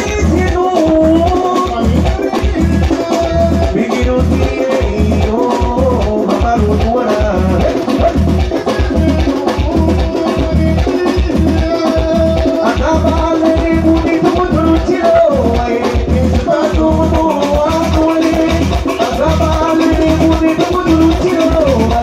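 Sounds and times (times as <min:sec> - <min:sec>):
electric guitar and keyboards: 0:00.0 - 0:22.0
heavy low beat: 0:00.0 - 0:22.0
person singing: 0:00.0 - 0:22.0.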